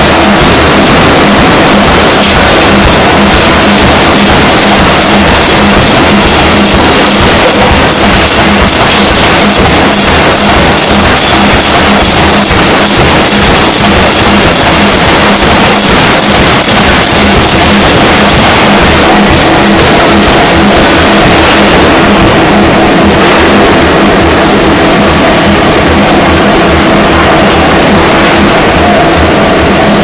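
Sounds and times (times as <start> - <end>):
machinery hum: 0.0 - 30.0
power hammer forging: 0.0 - 30.0.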